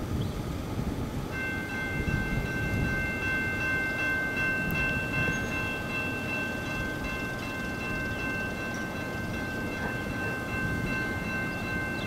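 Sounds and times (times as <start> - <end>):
low rumble of train: 0.0 - 12.0.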